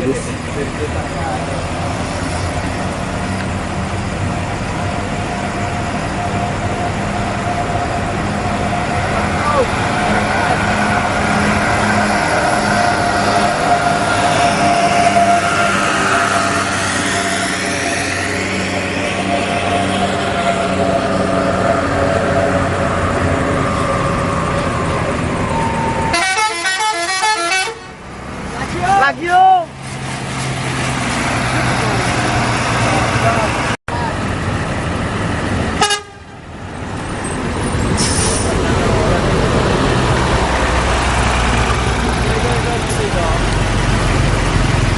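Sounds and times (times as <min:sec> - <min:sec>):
bus engine rumbling: 0:00.0 - 0:44.9.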